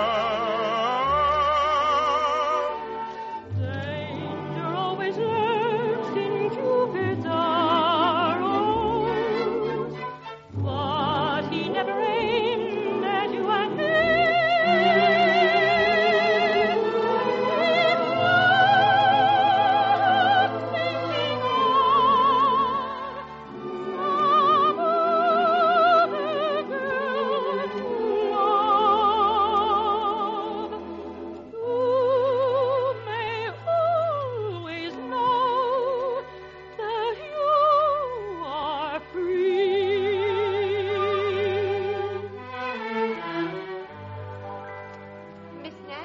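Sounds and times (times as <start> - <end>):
operatic singing with vibrato: 0.0 - 44.0
orchestra: 0.0 - 46.0.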